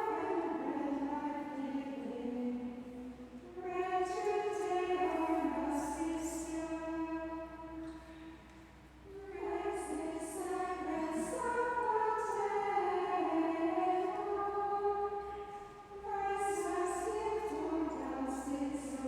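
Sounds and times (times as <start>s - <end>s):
women's choir chanting: 0.0s - 8.0s, 9.1s - 19.0s.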